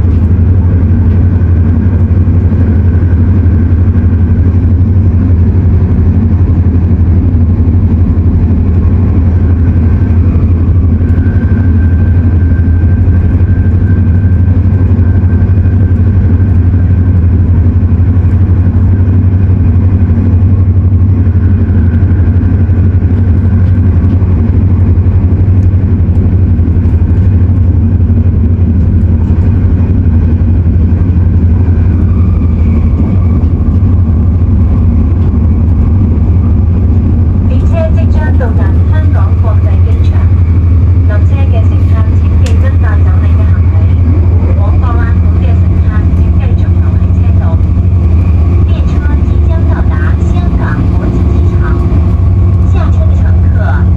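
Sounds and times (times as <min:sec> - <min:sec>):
train cabin low rumble: 0:00.0 - 0:53.9.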